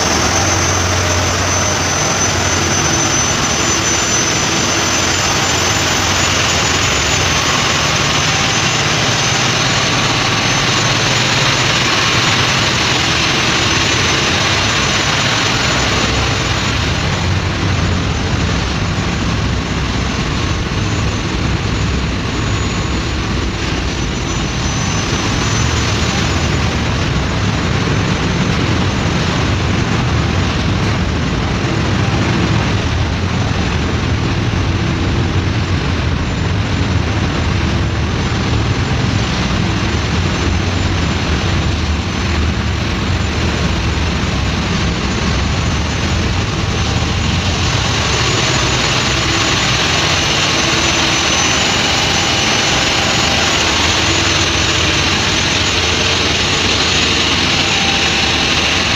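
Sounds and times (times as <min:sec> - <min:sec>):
diesel engines running: 0:00.0 - 0:58.9.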